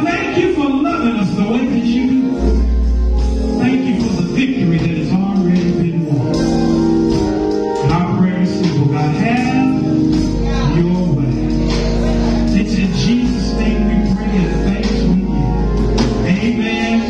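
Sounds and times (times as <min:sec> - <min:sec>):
deep bass note: 0:00.0 - 0:17.0
held instrumental chords: 0:00.0 - 0:17.0
man singing gospel song: 0:00.0 - 0:17.0.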